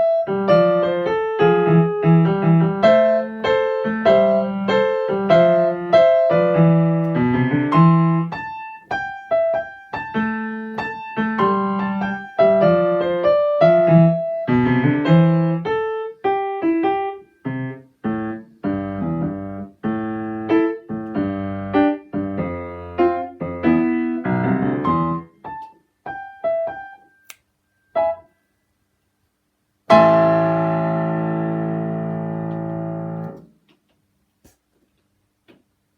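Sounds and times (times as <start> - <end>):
blues piano playing: 0.0 - 27.2, 29.9 - 33.5.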